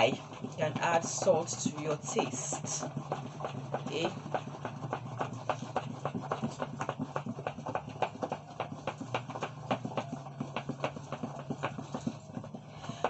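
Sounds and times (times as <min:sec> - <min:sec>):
spatula beating batter in bowl: 0:00.0 - 0:13.0.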